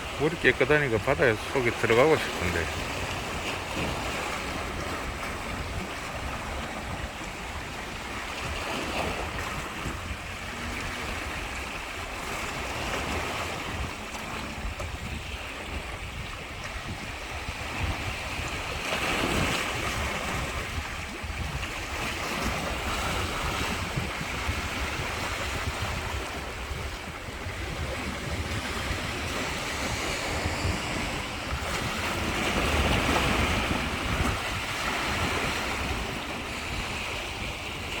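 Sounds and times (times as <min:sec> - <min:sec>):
sea waves washing ashore: 0:00.0 - 0:38.0
wind buffeting microphone: 0:00.0 - 0:38.0.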